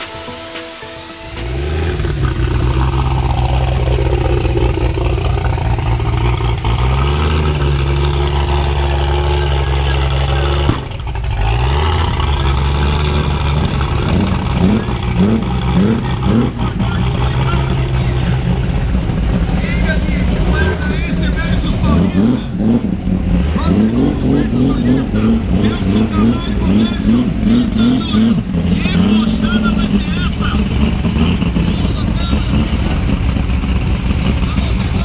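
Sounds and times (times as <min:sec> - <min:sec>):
drag car engine running: 0:00.9 - 0:35.0.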